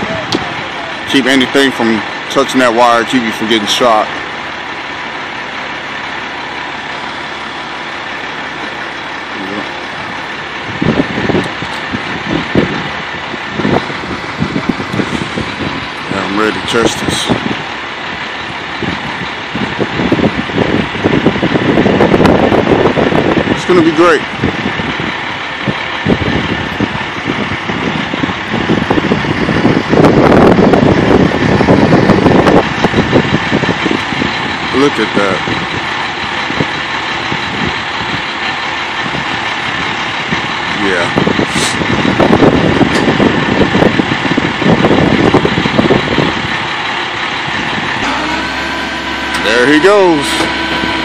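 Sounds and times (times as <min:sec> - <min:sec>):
low thumps and rumbles: 0:00.0 - 0:51.0
truck engine idling: 0:00.0 - 0:51.0.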